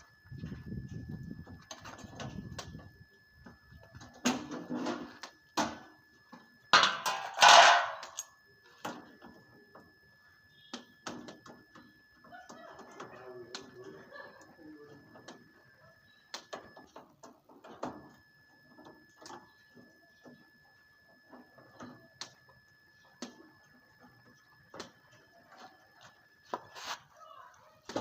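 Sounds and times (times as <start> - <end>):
faint steady high tone: 0.0 - 28.0.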